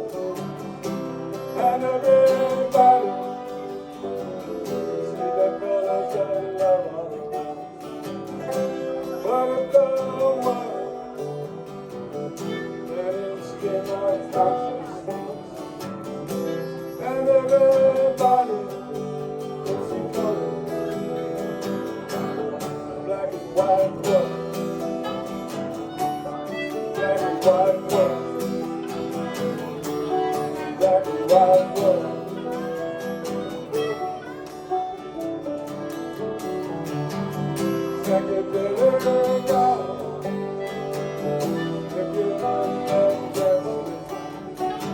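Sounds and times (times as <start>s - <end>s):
man singing: 0.0s - 36.8s, 37.4s - 44.9s
strummed acoustic guitar: 0.0s - 44.9s.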